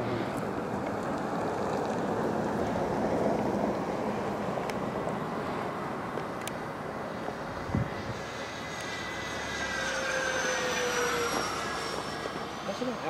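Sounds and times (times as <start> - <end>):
electric ducted-fan jet whine: 0.0 - 13.0.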